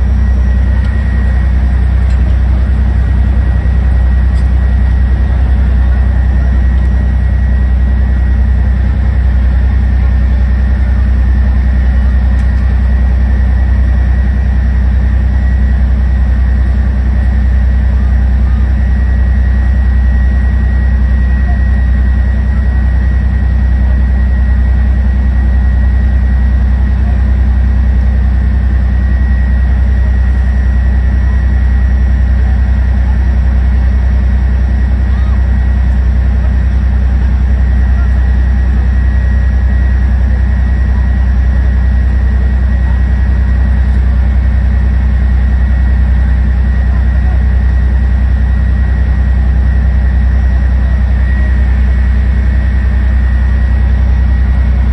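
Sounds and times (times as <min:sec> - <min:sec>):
heavy vehicle engine idling: 0:00.0 - 0:54.9
thin steady whine: 0:00.0 - 0:54.9.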